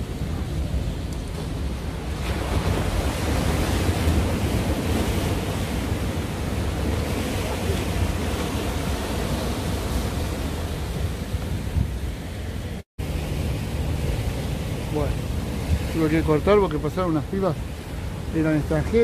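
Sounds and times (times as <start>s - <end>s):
surf breaking on rocks: 0.0s - 19.0s
wind buffeting microphone: 0.0s - 19.0s.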